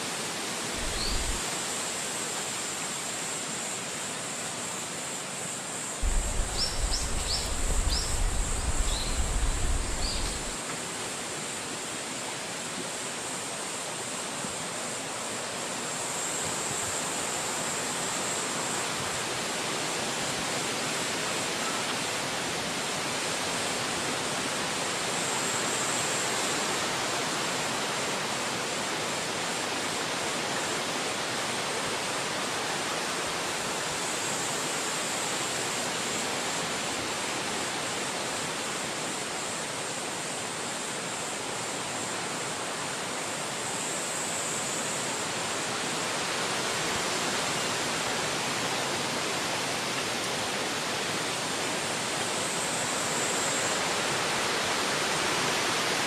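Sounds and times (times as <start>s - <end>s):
faint high hiss: 0.0s - 56.0s
wind through trees: 0.0s - 56.0s.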